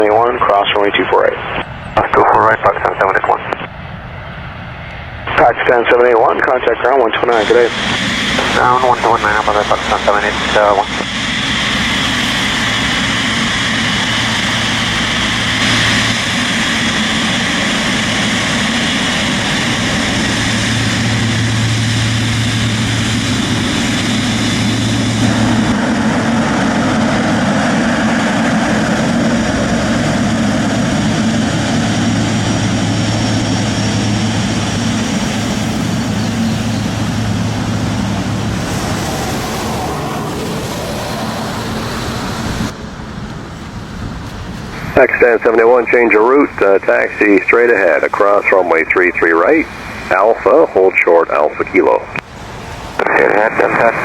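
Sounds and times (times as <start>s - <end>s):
jet engines in reverse thrust: 0.0s - 54.0s.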